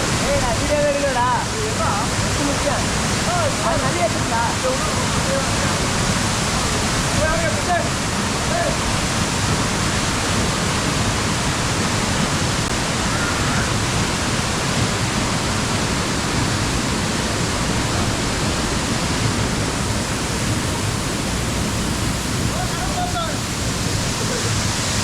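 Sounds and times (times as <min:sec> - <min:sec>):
waterfall rushing onto rock: 0:00.0 - 0:25.0.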